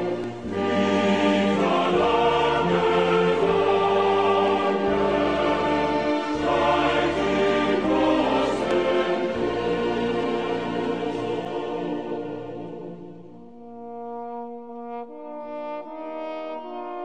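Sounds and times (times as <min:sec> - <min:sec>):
choir singing: 0:00.0 - 0:13.7
orchestral accompaniment: 0:00.0 - 0:17.0.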